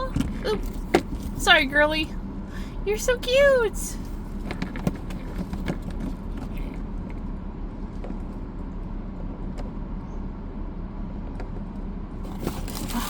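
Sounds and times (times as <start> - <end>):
car cabin hum: 0.0 - 13.0.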